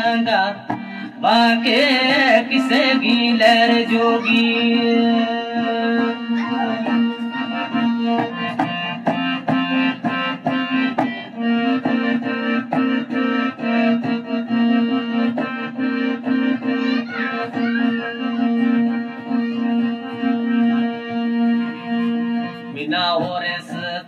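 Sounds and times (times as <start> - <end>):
keyboard playing reedy melody: 0.0 - 24.0.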